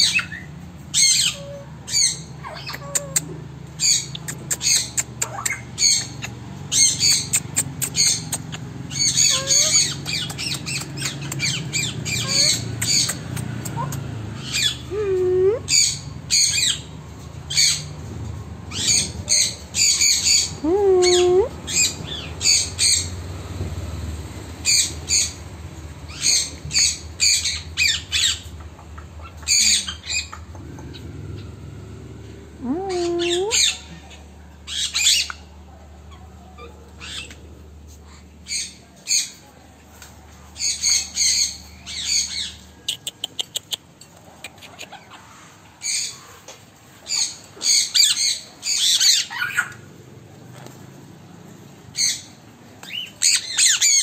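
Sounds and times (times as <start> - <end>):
parrots squawking: 0.0 - 18.1, 18.7 - 23.2, 24.6 - 31.6, 32.6 - 35.5, 36.1 - 37.4, 40.6 - 43.8, 44.4 - 46.4, 47.0 - 49.9, 51.9 - 54.0.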